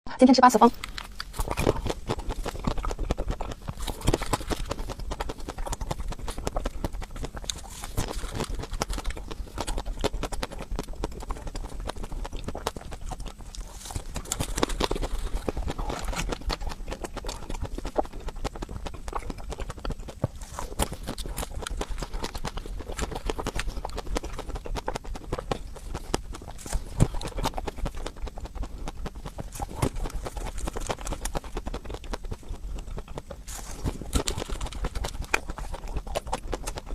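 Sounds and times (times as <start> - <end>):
crunching and chewing: 0.7 - 36.9.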